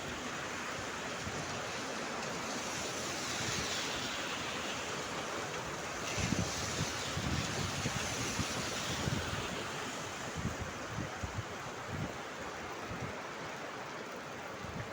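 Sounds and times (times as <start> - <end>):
heavy rain pouring: 0.0 - 13.1.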